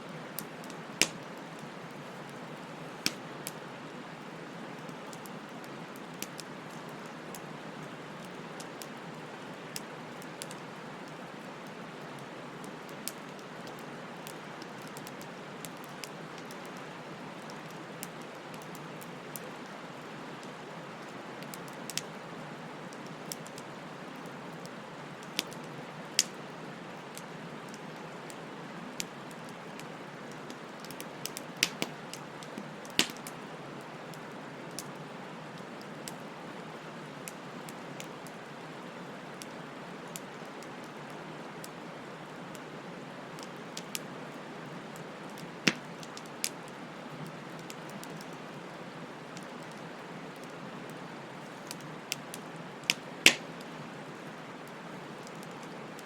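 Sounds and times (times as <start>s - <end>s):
wood fire burning: 0.1s - 56.0s.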